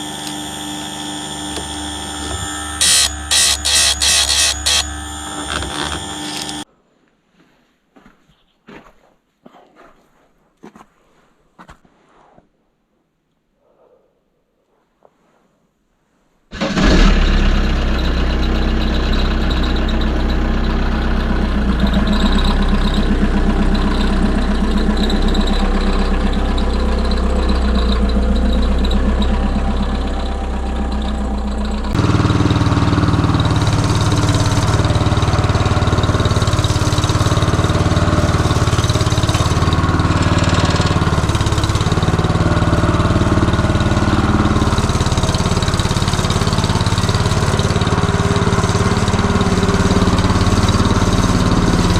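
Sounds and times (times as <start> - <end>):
petrol engine running: 0.0 - 6.6, 16.6 - 51.9.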